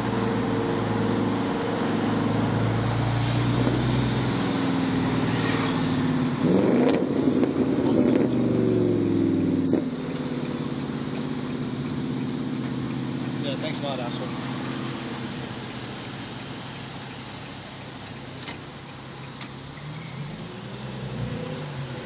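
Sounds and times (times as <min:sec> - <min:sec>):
car engine revving loud exhaust: 0:00.0 - 0:22.0.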